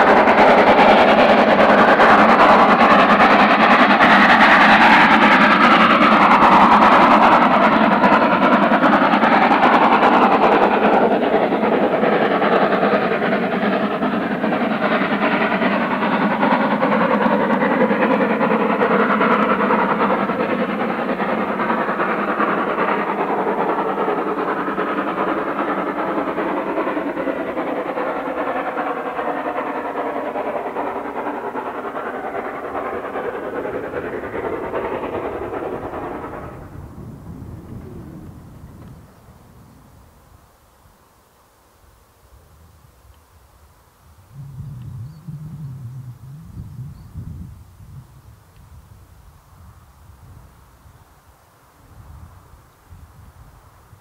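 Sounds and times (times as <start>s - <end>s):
steam locomotive exhaust: 0.0s - 54.0s
train running: 0.0s - 54.0s.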